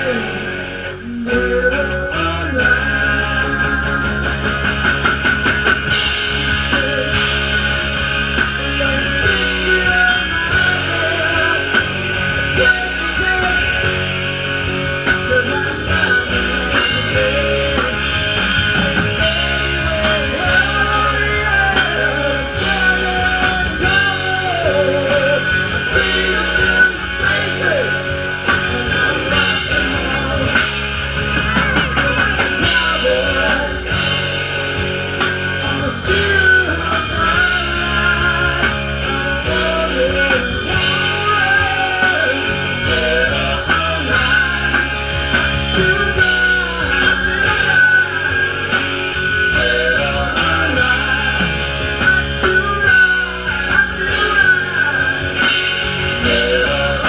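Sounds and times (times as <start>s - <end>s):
man singing: 0.0s - 4.8s, 5.9s - 57.0s
bass guitar: 0.0s - 57.0s
electric guitars: 0.0s - 57.0s
drum kit beat: 1.5s - 57.0s.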